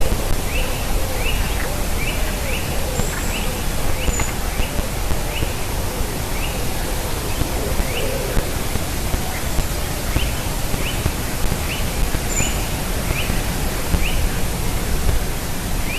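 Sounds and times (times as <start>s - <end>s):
steady hiss: 0.0s - 15.9s.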